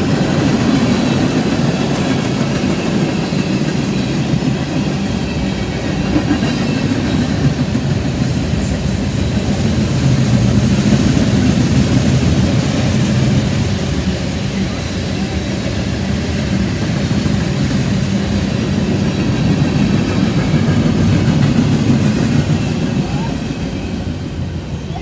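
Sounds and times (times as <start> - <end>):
train wheels rolling on rails: 0.0 - 25.0.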